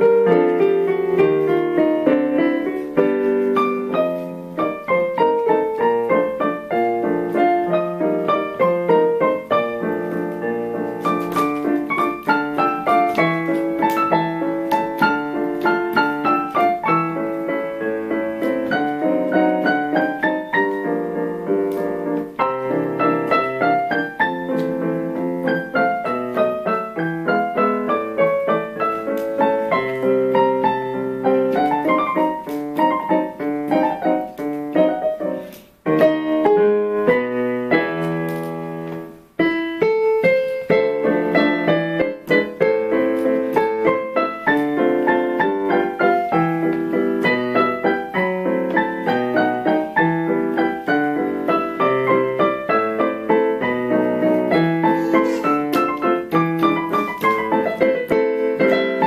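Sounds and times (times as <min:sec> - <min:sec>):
piano duet: 0:00.0 - 0:59.0.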